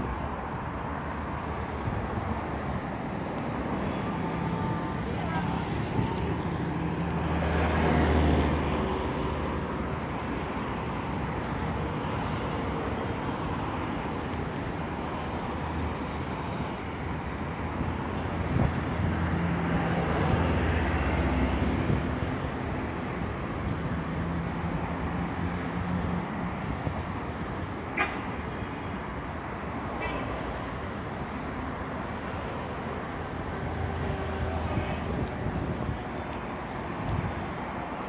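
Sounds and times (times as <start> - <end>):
passing cars: 0.0 - 38.0.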